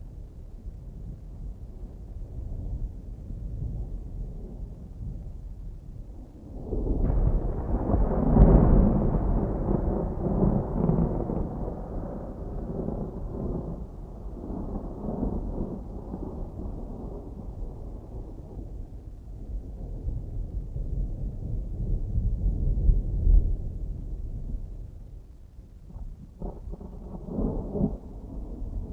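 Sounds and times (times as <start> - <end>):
distant thunder rolling: 1.2 - 28.9.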